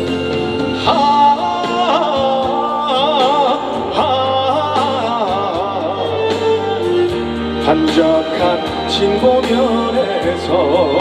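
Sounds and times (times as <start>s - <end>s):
band melodic fill with vibrato: 0.0s - 11.0s.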